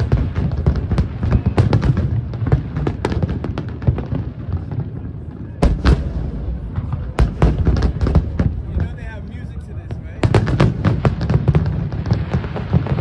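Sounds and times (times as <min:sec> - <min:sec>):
fireworks bangs and crackles: 0:00.0 - 0:13.0
heavy fireworks booms: 0:00.0 - 0:13.0.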